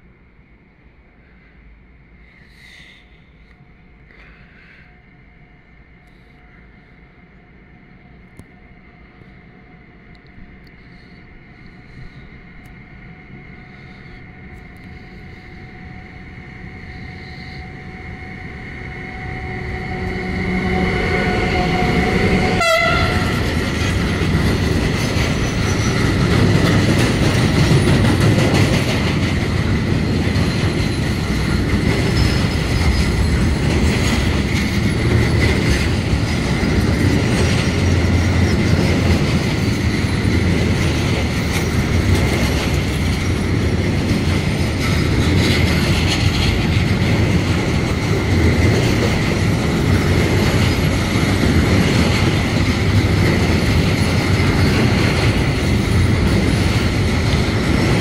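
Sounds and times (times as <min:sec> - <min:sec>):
electric locomotive whine: 0:00.0 - 0:58.0
train wheels rumbling and clattering: 0:07.9 - 0:58.0.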